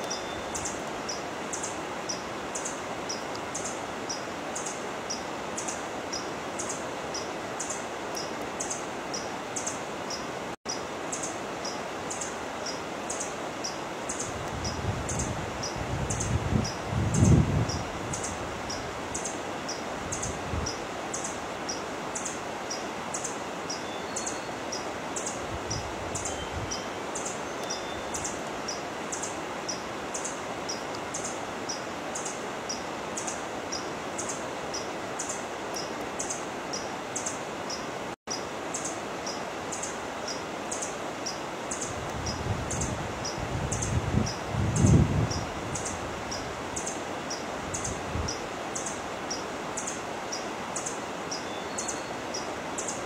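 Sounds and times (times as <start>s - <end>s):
small bird chirping: 0.0s - 53.0s
steady hiss: 0.0s - 53.0s.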